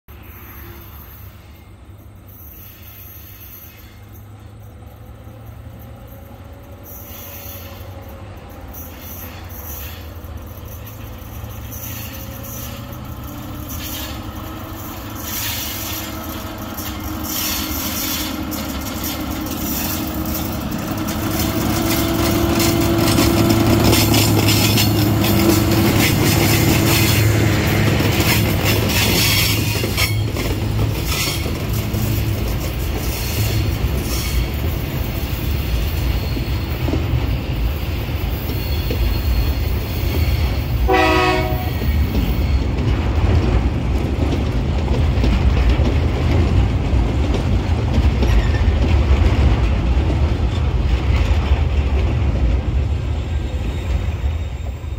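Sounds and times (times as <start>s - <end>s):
locomotive engine hum: 0.2s - 54.9s
train wheels clicking over rails: 1.1s - 54.9s.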